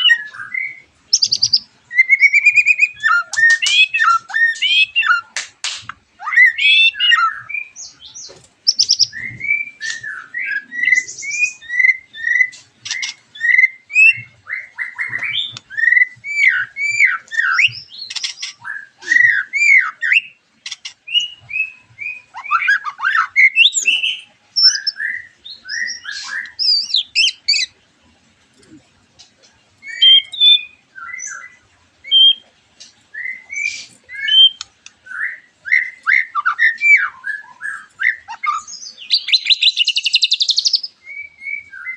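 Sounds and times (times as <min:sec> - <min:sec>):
birds singing whistled phrases: 0:00.0 - 0:27.8, 0:29.8 - 0:41.9.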